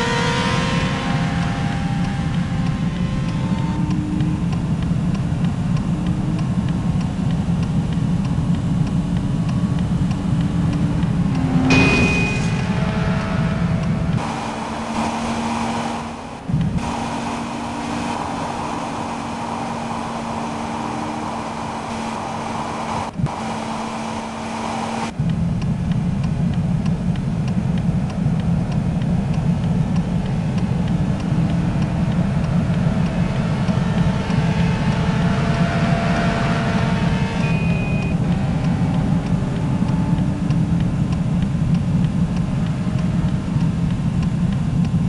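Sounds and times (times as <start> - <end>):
vehicle running hum and rumble: 0.0 - 45.0.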